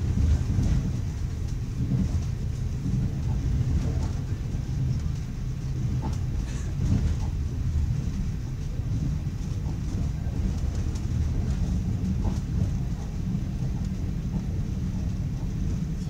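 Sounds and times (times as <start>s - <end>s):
train rumble from inside carriage: 0.0s - 16.0s.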